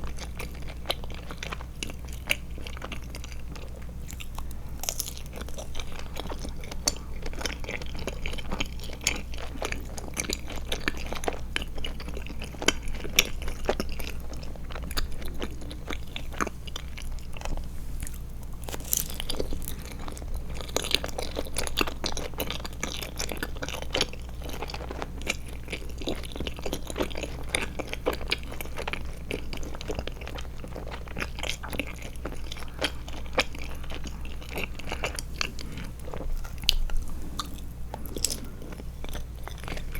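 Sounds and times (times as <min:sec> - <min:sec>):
chewing gummies: 0:00.0 - 0:39.9.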